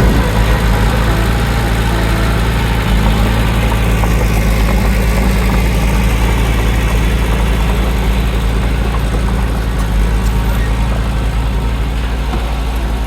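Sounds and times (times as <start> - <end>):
heavy diesel engine droning: 0.0 - 13.0.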